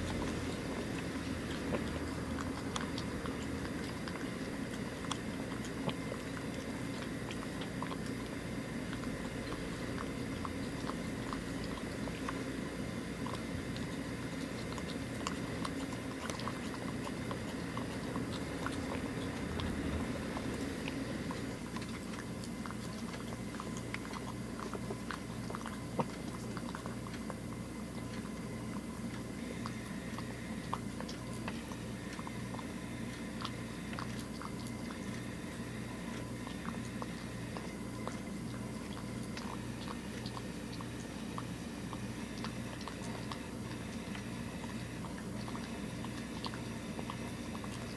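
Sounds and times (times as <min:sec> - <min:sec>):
cat chewing and lapping wet food: 0:00.0 - 0:47.9
low background hum: 0:00.0 - 0:47.9.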